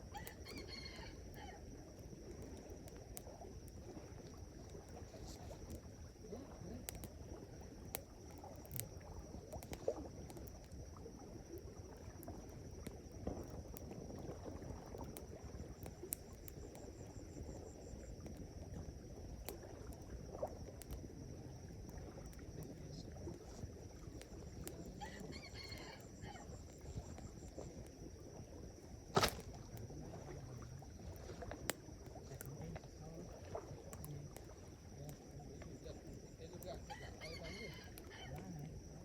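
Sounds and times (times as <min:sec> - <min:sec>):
campfire rushing: 0:00.0 - 0:39.0
fire crackles and pops: 0:00.0 - 0:39.0.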